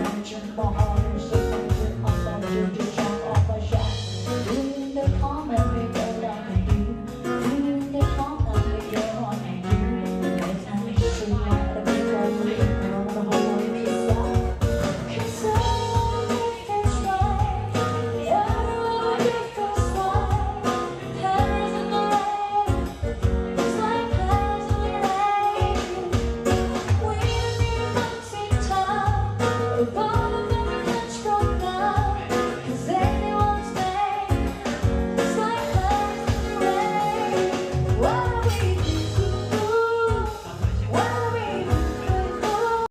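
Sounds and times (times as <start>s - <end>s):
guitar and band accompaniment: 0.0s - 42.9s
woman singing a pop song: 0.0s - 42.9s.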